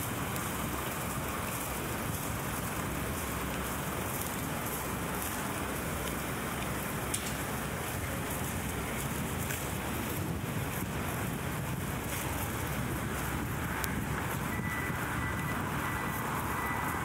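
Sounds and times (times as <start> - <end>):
city street hiss: 0.0 - 17.0.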